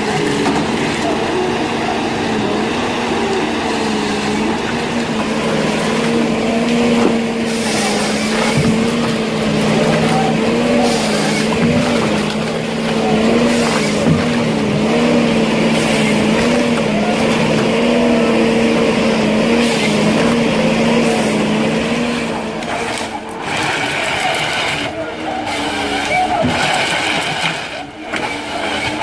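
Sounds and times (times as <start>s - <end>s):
harvester diesel engine and hydraulics: 0.0s - 29.0s.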